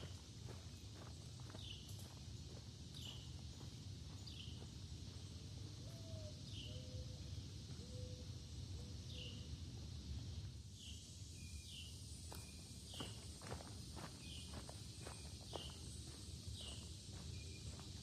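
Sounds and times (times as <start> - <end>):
songbird chirping: 0.0 - 9.6, 10.8 - 18.0
woodland background hiss: 0.0 - 18.0.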